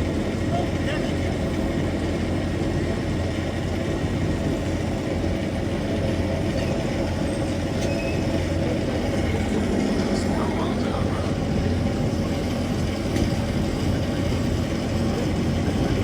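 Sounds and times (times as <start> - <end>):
steam train rumbling on track: 0.0 - 16.0.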